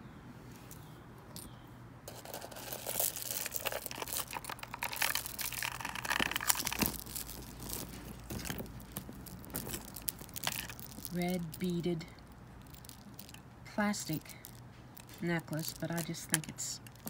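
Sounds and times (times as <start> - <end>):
wrapping crinkling and rustling: 2.1 - 17.0.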